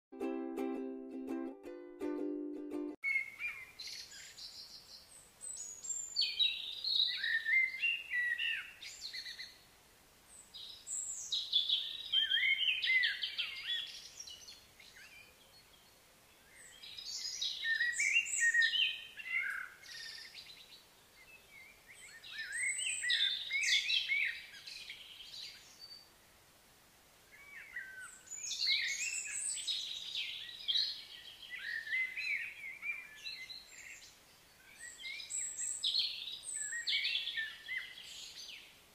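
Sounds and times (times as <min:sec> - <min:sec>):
songbird singing: 0:02.1 - 0:26.2, 0:27.2 - 0:38.9.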